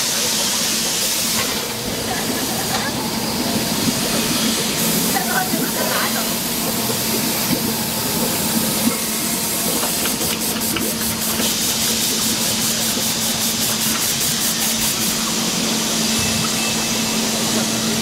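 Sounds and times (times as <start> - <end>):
machinery air hiss and hum: 0.0 - 18.0.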